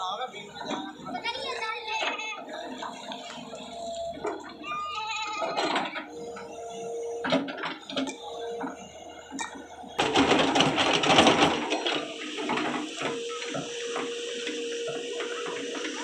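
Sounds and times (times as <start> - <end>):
excavator running: 0.0 - 16.0.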